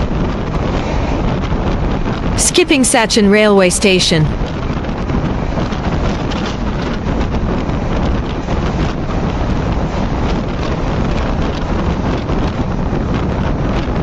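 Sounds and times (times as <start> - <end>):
wind buffeting microphone: 0.0 - 2.4, 4.3 - 14.0.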